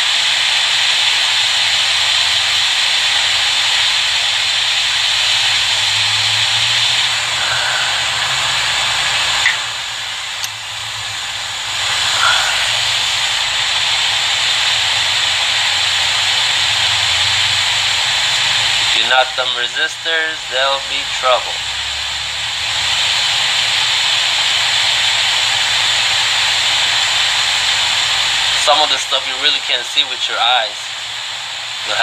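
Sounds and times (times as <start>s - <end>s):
hot-air station hissing: 0.0s - 32.0s.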